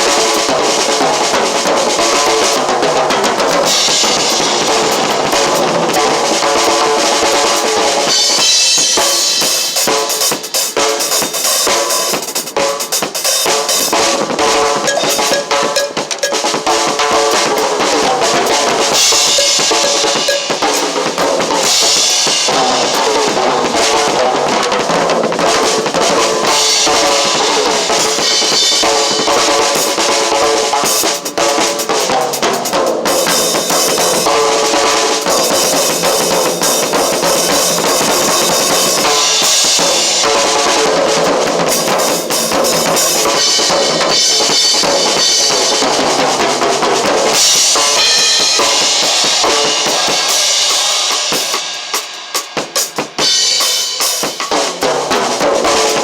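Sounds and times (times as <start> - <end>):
drum kit playing: 0.0 - 56.0.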